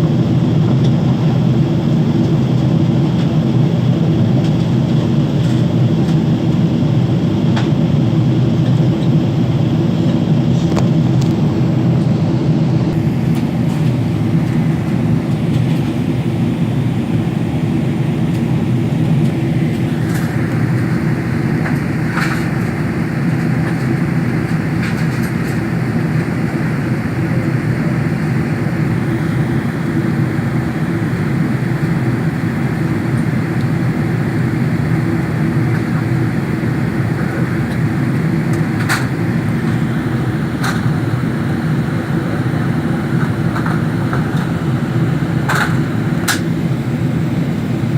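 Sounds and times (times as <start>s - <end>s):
airliner cabin rumble: 0.0s - 47.9s.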